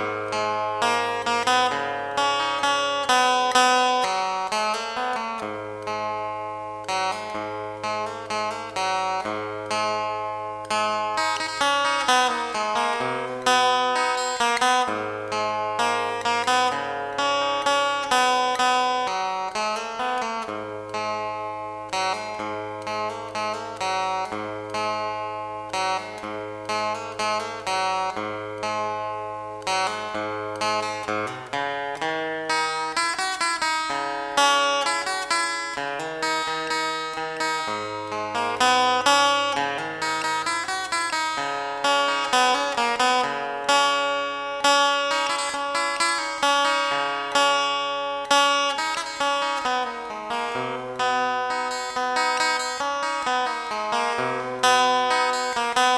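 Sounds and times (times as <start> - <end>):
plucked acoustic guitar: 0.0 - 55.9.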